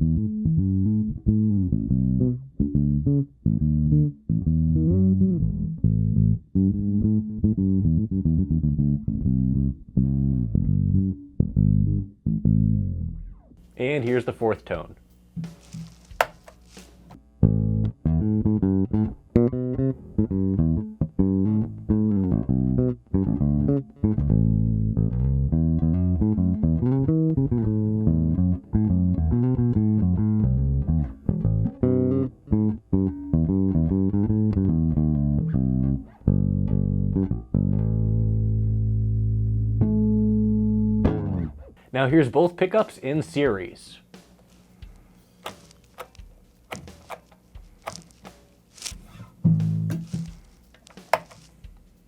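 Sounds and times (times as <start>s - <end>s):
plucked electric bass: 0.0s - 13.6s, 17.2s - 41.8s, 45.4s - 51.7s.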